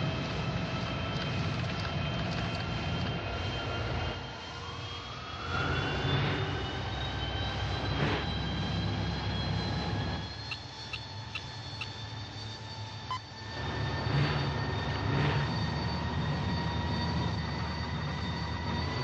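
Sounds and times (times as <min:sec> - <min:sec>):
centrifuge low rumble: 0:00.0 - 0:04.4, 0:05.5 - 0:19.0
high whining tones: 0:00.0 - 0:19.0.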